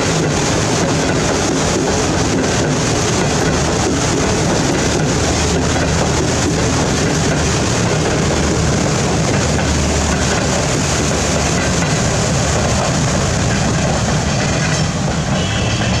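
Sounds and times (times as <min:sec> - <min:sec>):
rail noise: 0:00.0 - 0:16.0
train wheels splashing water: 0:00.0 - 0:16.0.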